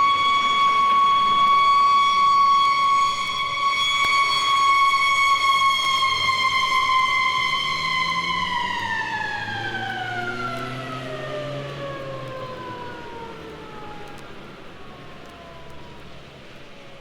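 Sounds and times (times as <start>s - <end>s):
mechanical siren winding down: 0.0s - 16.2s.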